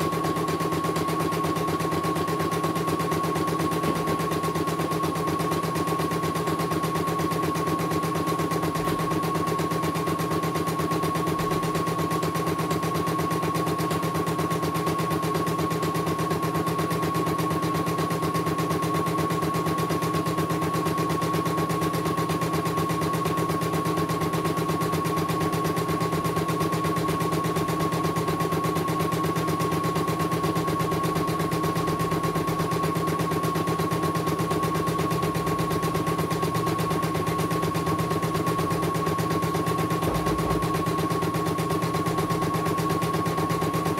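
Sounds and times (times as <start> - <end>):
constant high machine tone: 0.0 - 43.9.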